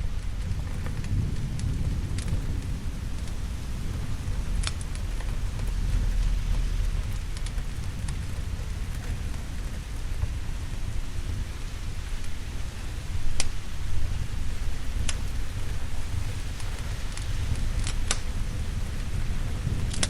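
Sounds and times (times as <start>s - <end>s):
heavy rain: 0.0s - 20.0s
thunder rumbling: 0.0s - 20.0s
wood fire crackling: 0.0s - 20.0s.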